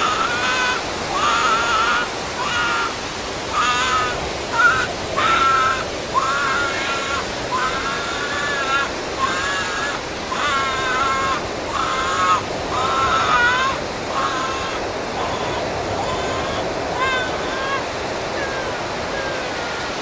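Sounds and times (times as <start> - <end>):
drawn-out cawing calls: 0.0 - 19.6
steady rushing noise: 0.0 - 20.0.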